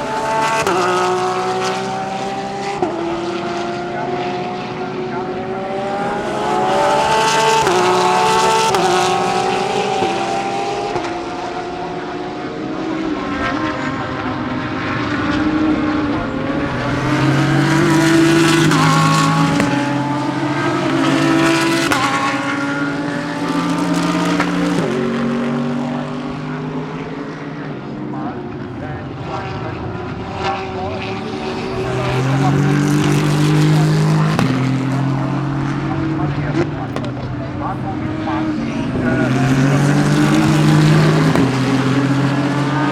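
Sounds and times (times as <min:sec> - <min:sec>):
race cars passing at speed: 0:00.0 - 0:42.9.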